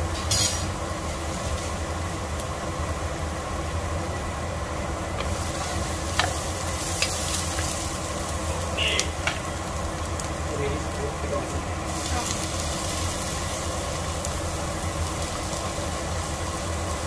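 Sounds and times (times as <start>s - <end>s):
garlic and onion sizzling in oil: 0.0s - 17.0s.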